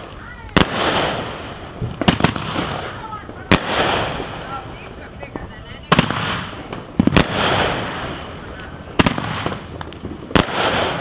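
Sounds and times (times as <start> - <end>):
firework bangs: 0.0 - 11.0.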